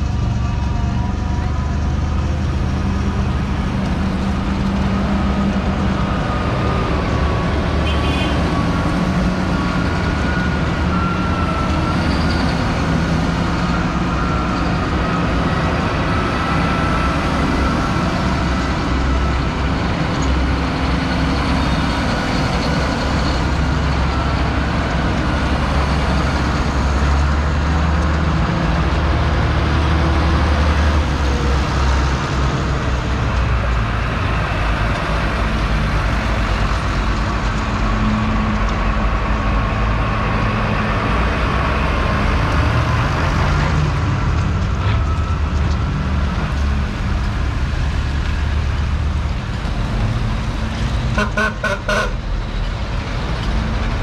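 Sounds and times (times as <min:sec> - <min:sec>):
tractor engines rumbling: 0:00.0 - 0:54.0.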